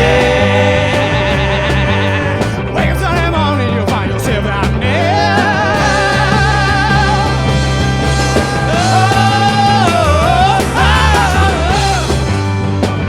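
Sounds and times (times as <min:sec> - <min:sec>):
pitch-bending melody line: 0:00.0 - 0:12.9
rock band playing live: 0:00.0 - 0:13.0.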